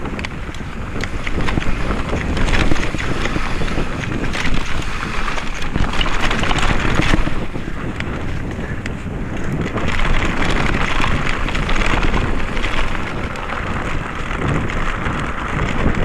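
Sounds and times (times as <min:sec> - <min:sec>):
bike rattling: 0:00.0 - 0:16.0
tyres rolling over rough ground: 0:00.0 - 0:16.0
wind buffeting microphone: 0:00.0 - 0:16.0.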